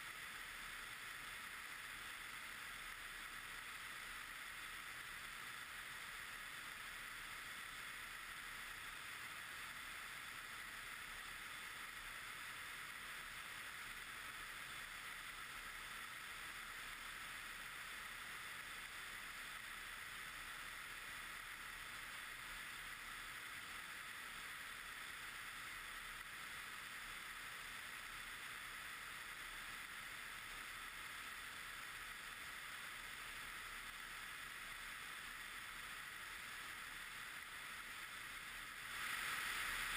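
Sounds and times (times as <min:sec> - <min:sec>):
rushing airflow hiss: 0:00.0 - 0:39.9.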